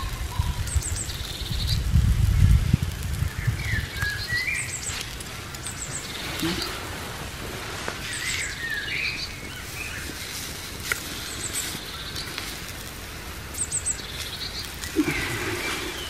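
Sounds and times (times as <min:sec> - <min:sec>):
birds singing and chirping: 0:00.0 - 0:16.0
campfire crackling: 0:00.0 - 0:16.0.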